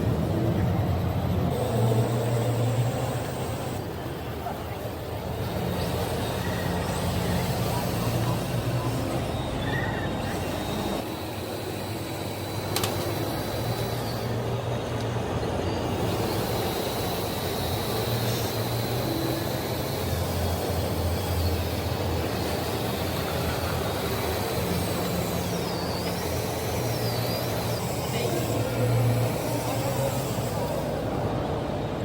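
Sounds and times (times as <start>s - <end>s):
motor humming: 5.2s - 32.0s.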